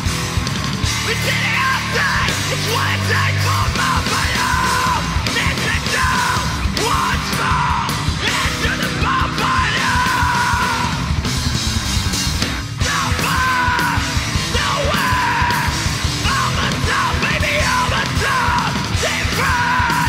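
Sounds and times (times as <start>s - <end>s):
bass guitar: 0.0s - 20.0s
distorted electric guitars: 0.0s - 20.0s
fast dense drumming: 0.0s - 20.0s
shouted vocals: 1.0s - 11.1s, 12.8s - 20.0s.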